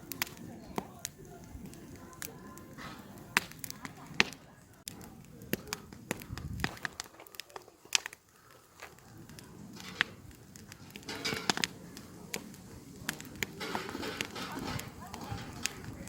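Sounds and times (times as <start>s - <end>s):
campfire crackling and popping: 0.0s - 16.0s
fire hissing: 0.0s - 16.0s.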